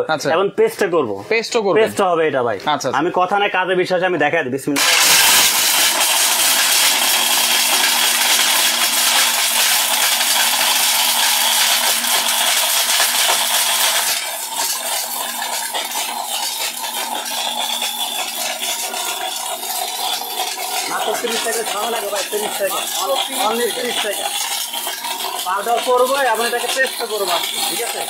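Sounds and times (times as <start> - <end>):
hard pieces rattling in metal jar: 4.8 - 28.0
mixer grinder motor humming: 4.8 - 28.0.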